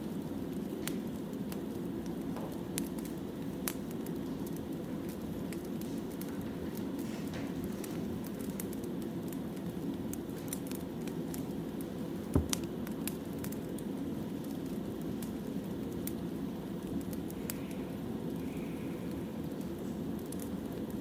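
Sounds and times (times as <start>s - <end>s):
burning firewood crackling: 0.0s - 21.0s.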